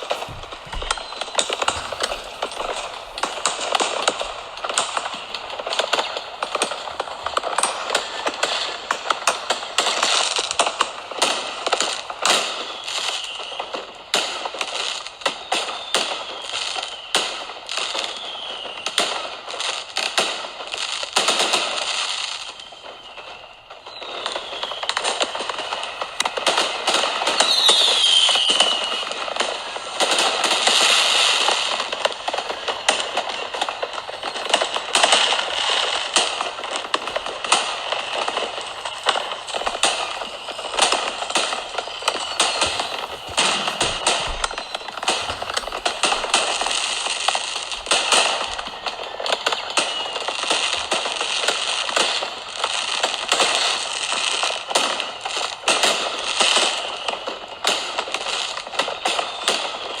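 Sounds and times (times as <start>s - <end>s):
fireworks crackling: 0.0s - 60.0s
sharp firework cracks: 0.0s - 60.0s.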